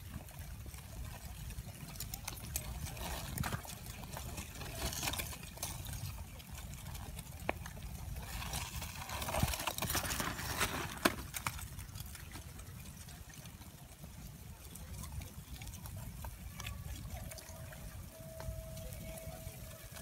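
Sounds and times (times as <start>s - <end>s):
lava crust chunks clinking: 0.1s - 17.2s.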